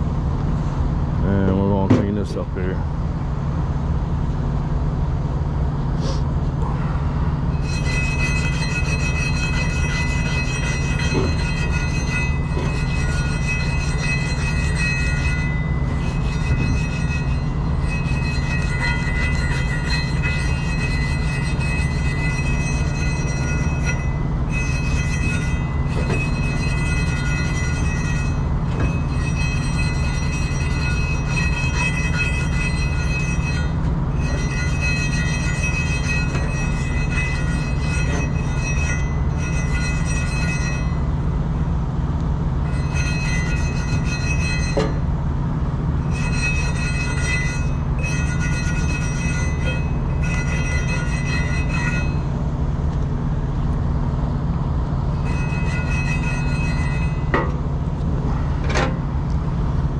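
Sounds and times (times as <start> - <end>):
machine running with low rumble: 0.0 - 59.9.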